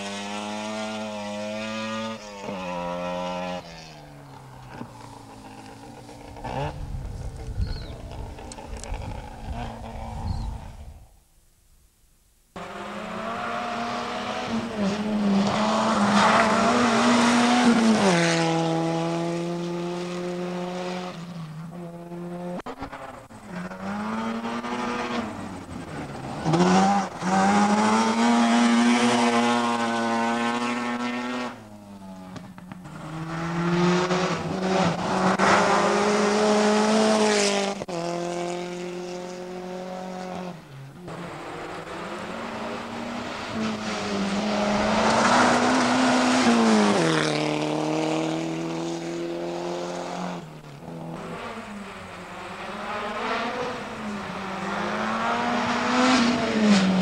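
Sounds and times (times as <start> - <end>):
rally car engines revving: 0.0 - 11.0, 12.6 - 57.0.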